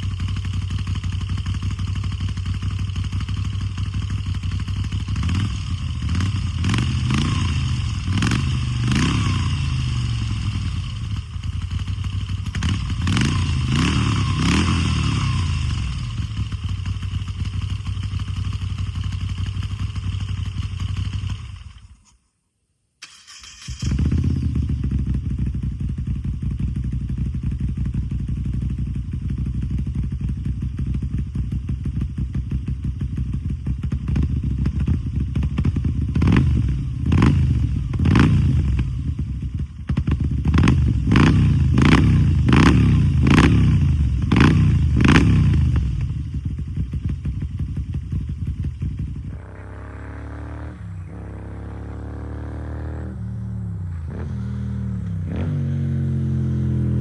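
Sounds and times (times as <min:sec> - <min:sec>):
motorcycle engine idling: 0:00.0 - 0:21.9, 0:24.0 - 0:57.0
motorcycle engine revving: 0:00.0 - 0:21.9, 0:23.1 - 0:57.0.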